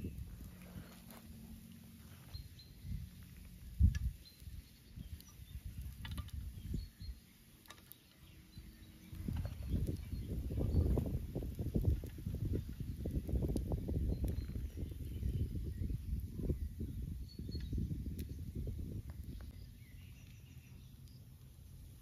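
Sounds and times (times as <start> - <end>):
faint bird chirps: 0.0 - 11.4, 12.3 - 22.0.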